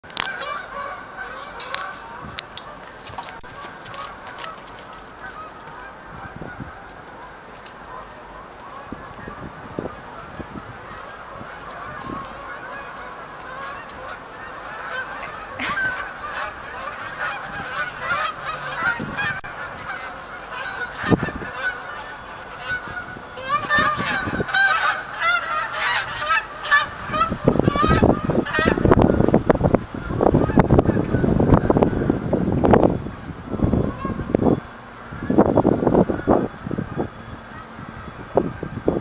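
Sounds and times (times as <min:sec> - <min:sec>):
geese honking: 0:00.1 - 0:39.0.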